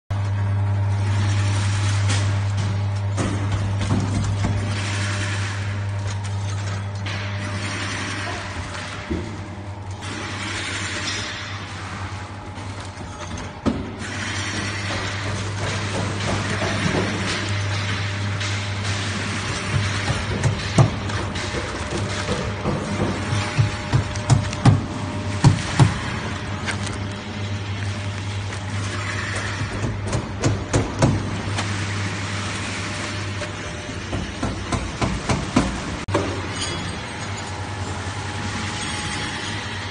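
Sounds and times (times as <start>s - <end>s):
machine low hum and hissing: 0.1s - 39.9s.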